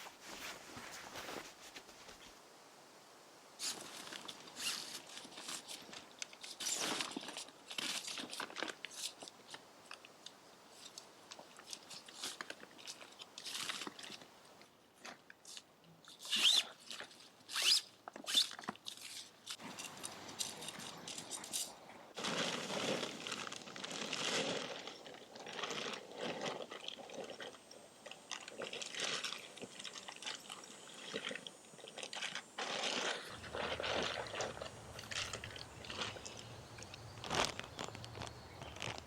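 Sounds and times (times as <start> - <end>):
crinkling and crunching: 3.6 - 39.0.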